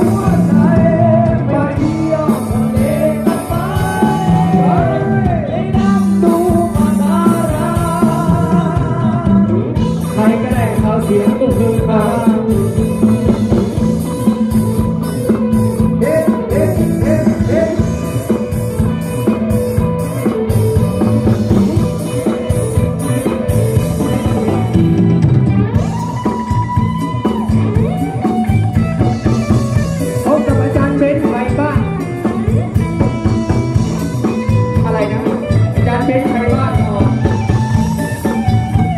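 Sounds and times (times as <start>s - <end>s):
live band with singer: 0.0s - 38.9s.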